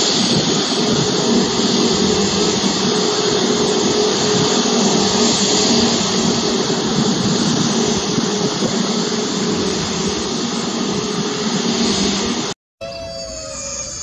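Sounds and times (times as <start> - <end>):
jet turbine whine and rumble: 0.0 - 14.0.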